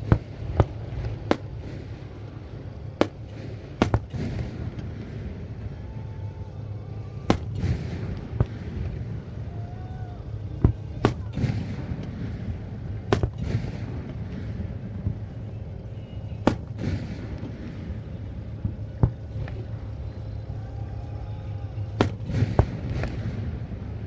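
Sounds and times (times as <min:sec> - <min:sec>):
fireworks bangs: 0:00.0 - 0:23.8
low rumble: 0:00.0 - 0:24.0.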